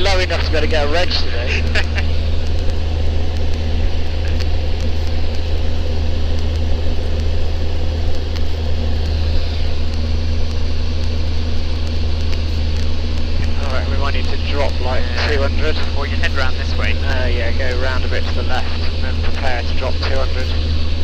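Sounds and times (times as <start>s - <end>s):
airplane engine drone in cabin: 0.0s - 21.0s.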